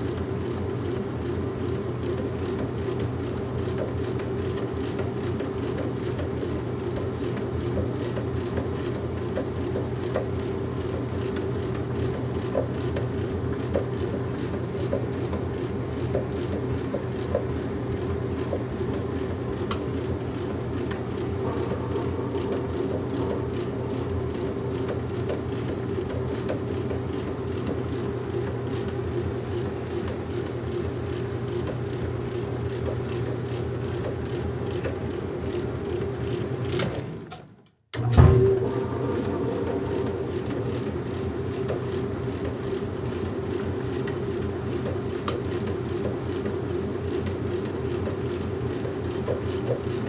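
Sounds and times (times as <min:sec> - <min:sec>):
washing machine humming: 0:00.0 - 0:50.0.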